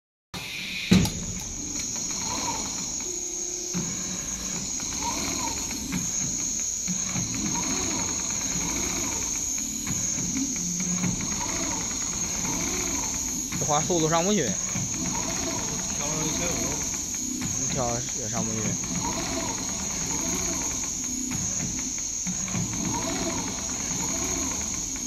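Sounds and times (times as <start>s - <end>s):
sewing machine whine: 0.4s - 25.0s.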